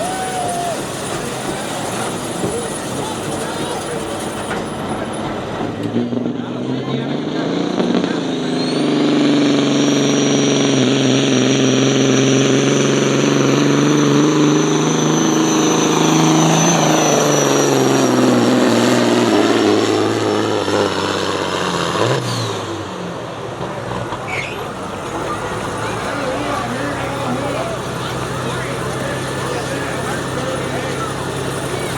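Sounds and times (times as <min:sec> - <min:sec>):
engine at full throttle: 0:00.0 - 0:31.9.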